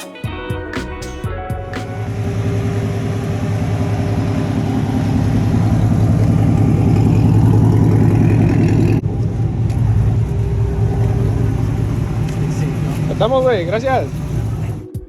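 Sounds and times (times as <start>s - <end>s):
truck engine running: 1.8s - 14.9s.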